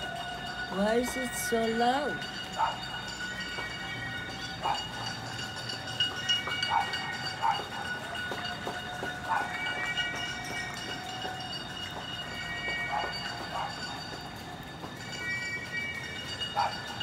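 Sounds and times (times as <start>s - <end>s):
horns holding long tones: 0.0s - 17.0s.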